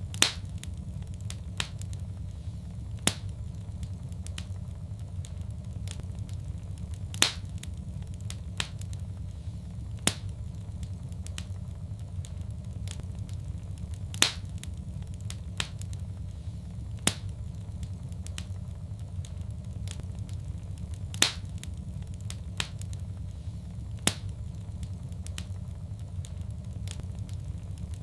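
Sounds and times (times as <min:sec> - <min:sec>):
fire crackling: 0:00.0 - 0:28.0
fire popping: 0:00.0 - 0:28.0.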